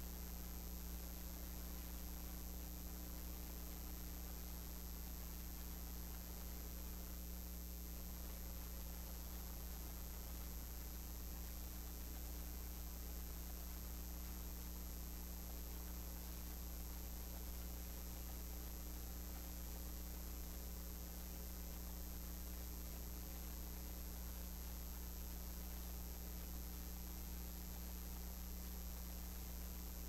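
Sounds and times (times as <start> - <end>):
faint sound system hiss: 0.0 - 30.0
low electrical mains hum: 0.0 - 30.0.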